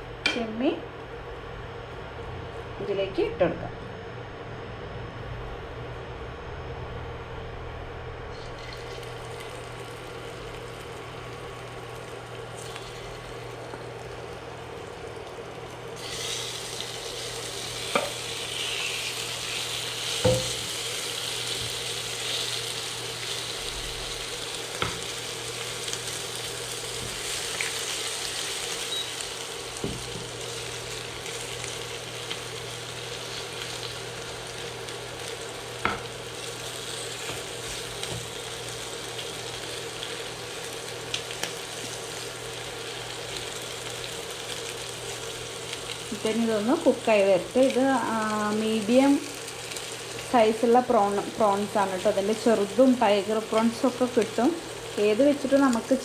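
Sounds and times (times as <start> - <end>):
low steady hum: 0.0 - 56.0
prawns sizzling in a frying pan: 8.4 - 56.0.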